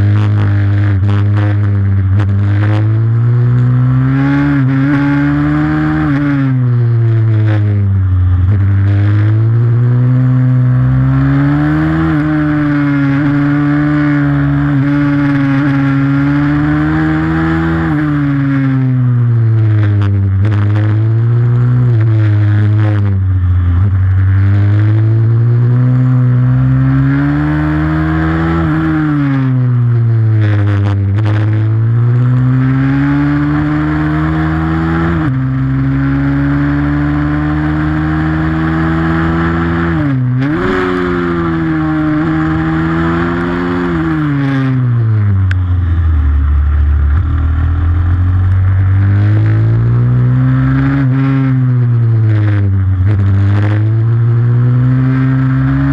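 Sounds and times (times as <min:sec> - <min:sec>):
motorbike engine accelerating: 0:00.0 - 0:55.9.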